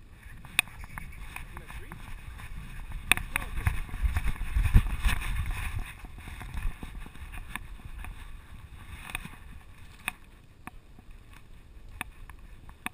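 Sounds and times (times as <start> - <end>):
camera rumbling and rubbing: 0.0 - 12.9.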